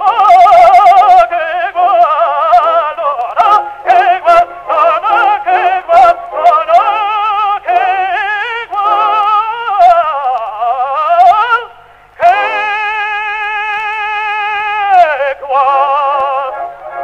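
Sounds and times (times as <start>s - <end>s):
operatic tenor singing: 0.0s - 17.0s.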